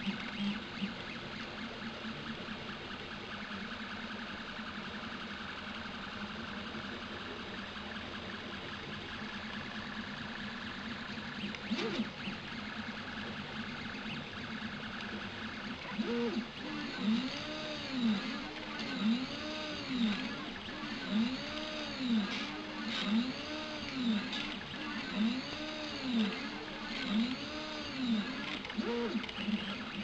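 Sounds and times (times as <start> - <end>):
stepper motors whining: 0.0 - 30.0.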